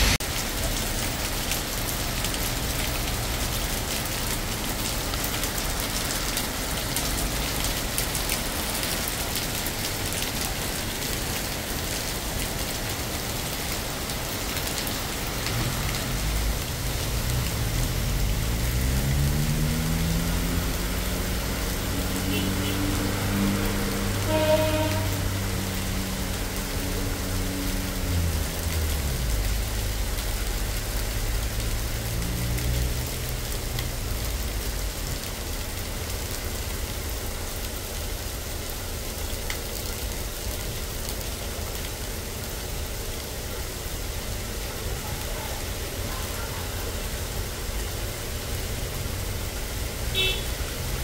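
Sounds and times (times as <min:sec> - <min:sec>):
rain hiss: 0:00.0 - 0:51.0
traffic on wet road: 0:00.0 - 0:51.0.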